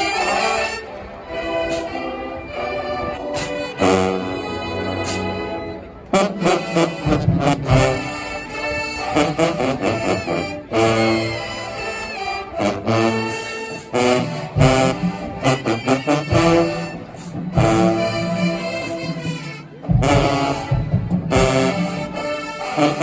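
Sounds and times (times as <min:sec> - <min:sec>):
brass band music: 0:00.0 - 0:23.0.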